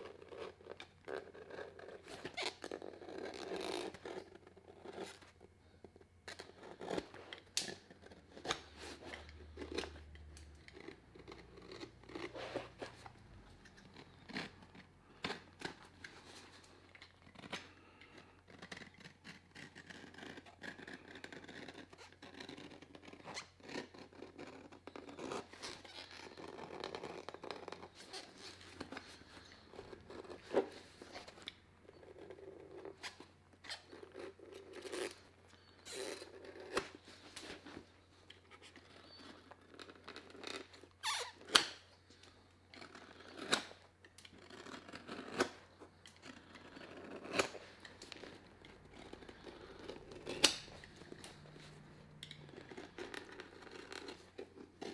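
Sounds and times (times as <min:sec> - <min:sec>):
tools cutting and scraping: 0:00.0 - 0:54.9.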